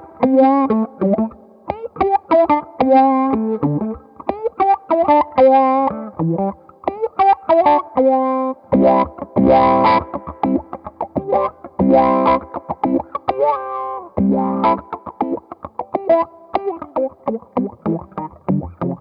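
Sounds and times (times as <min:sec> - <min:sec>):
electric guitar with filter sweep: 0:00.0 - 0:19.0.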